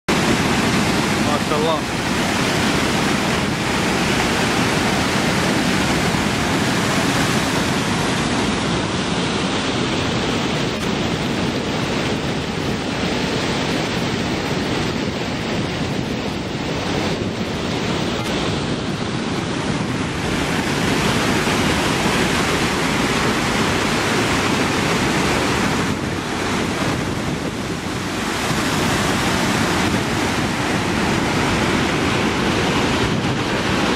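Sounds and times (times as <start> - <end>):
water rushing over weir: 0.1 - 33.9.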